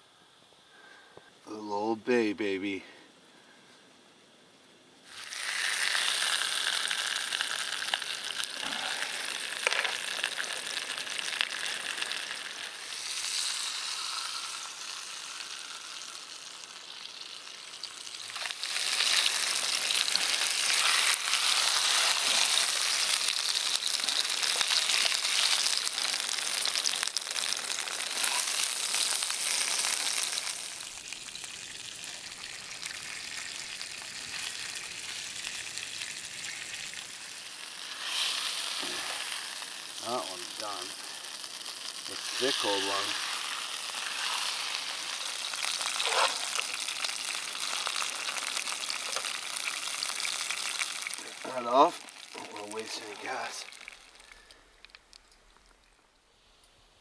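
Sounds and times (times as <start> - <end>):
fish sizzling in a pan: 5.0 - 56.6.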